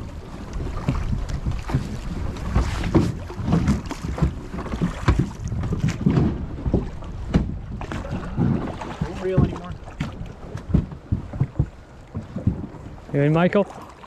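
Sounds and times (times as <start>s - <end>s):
wind buffeting microphone: 0.0s - 13.9s
water splashing against hull: 0.0s - 14.0s.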